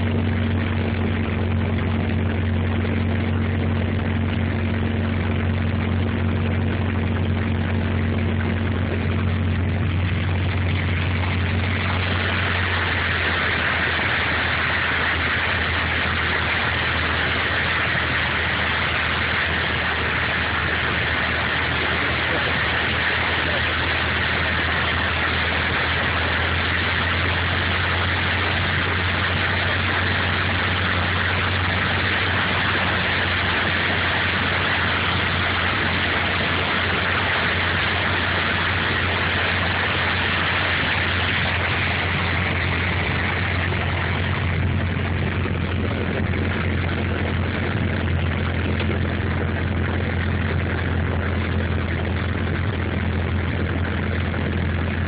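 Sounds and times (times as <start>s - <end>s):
aircraft piston engine and propeller: 0.0s - 55.0s.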